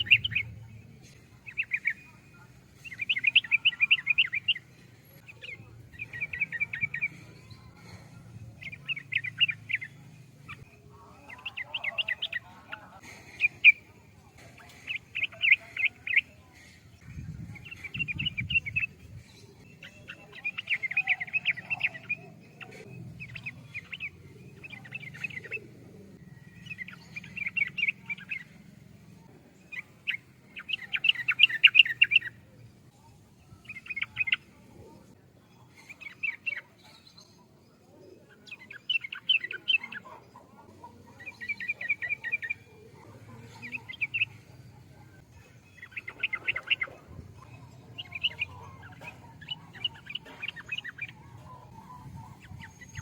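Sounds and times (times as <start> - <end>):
bird chattering song: 0.0 - 53.0.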